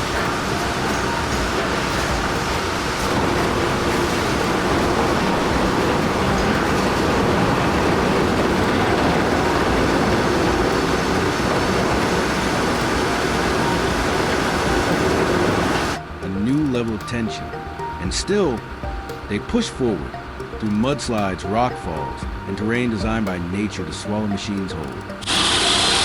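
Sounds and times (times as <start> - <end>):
heavy truck engine and tyre rumble: 0.0 - 20.8.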